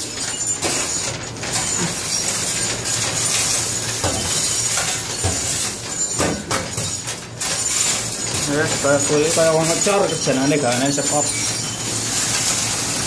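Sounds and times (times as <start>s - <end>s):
machinery metallic clatter: 0.0s - 13.0s
metal scraps clinking: 0.0s - 13.0s.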